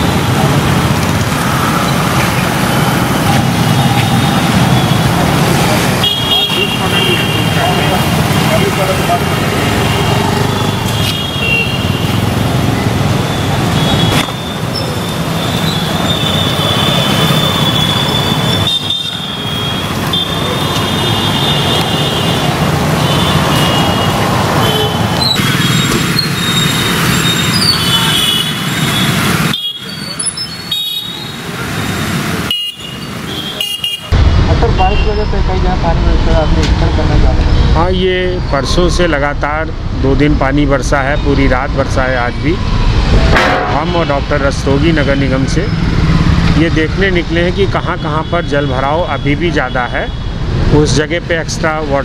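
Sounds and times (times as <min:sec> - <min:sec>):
motorcycles and cars passing: 0:00.0 - 0:52.0
traffic on wet road: 0:00.0 - 0:52.0.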